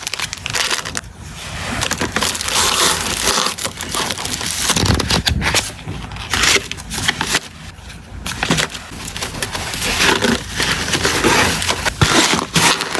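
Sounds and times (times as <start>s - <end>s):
packing materials rustling: 0.0s - 12.9s.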